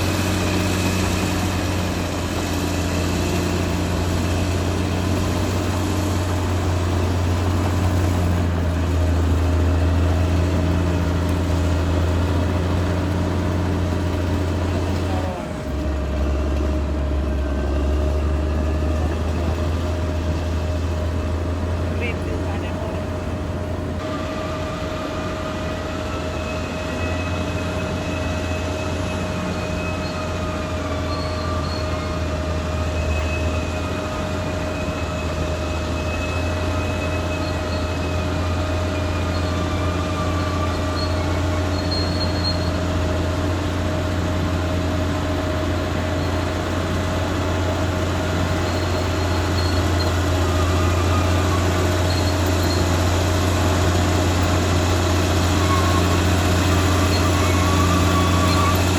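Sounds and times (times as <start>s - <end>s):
high wavering whine: 0.0s - 43.1s, 44.7s - 58.9s
bulldozer diesel engine running: 0.0s - 58.9s.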